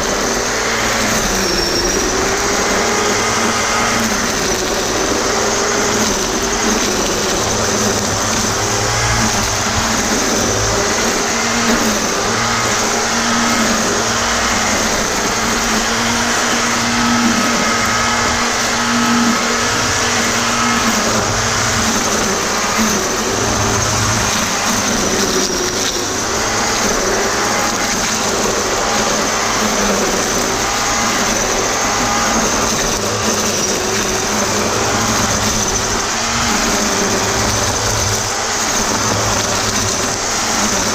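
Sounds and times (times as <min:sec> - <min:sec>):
electric string trimmer whining: 0:00.0 - 0:40.9.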